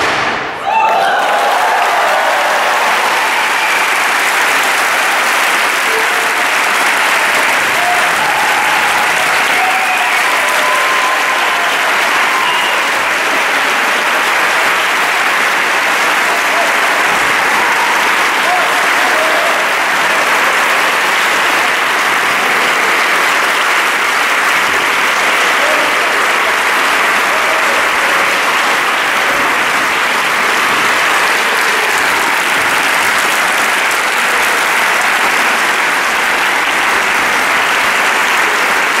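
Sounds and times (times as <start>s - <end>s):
audience applauding: 0.0s - 39.0s.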